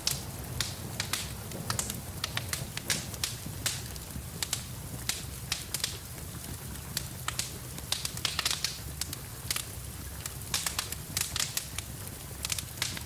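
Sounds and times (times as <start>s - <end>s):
rain hiss and rumble: 0.0s - 13.0s
wood fire pops and snaps: 0.0s - 13.0s.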